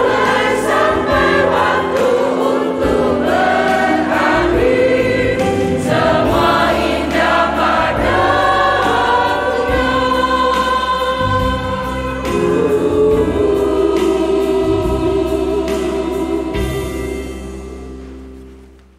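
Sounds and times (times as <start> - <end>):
women's choir singing: 0.0 - 17.3
instrumental accompaniment: 0.0 - 18.9.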